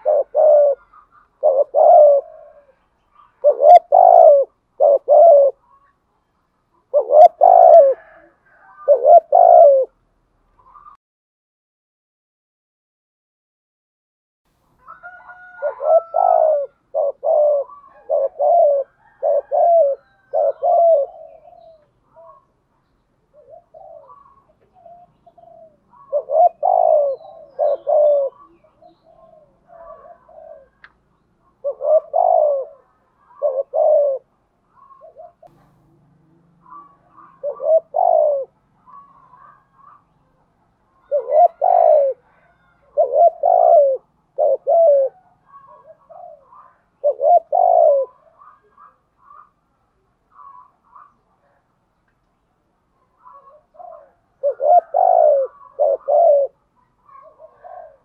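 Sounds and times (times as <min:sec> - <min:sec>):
dove cooing: 0:00.0 - 0:06.0, 0:06.8 - 0:10.0, 0:14.8 - 0:51.6, 0:53.0 - 0:58.0.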